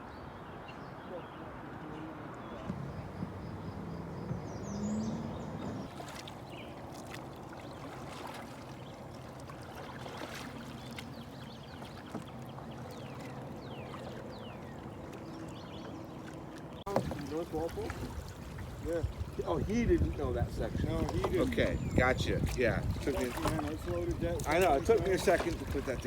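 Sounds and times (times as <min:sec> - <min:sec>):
water swishing around canoe: 0:01.9 - 0:26.0
paddle clicks and splashes: 0:02.3 - 0:26.0.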